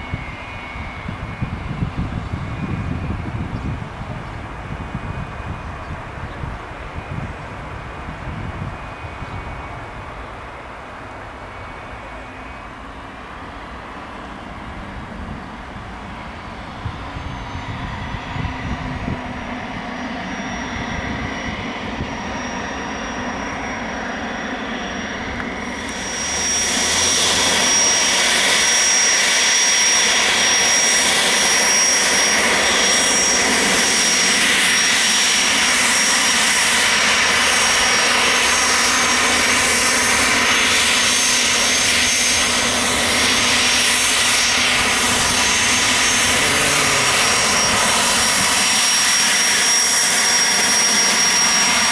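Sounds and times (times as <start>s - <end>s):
jet engines whining and roaring: 0.0s - 51.9s.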